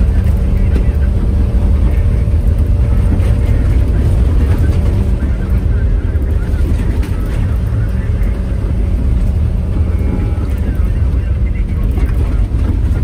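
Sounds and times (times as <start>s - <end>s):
vehicle cabin low rumble: 0.0s - 13.0s.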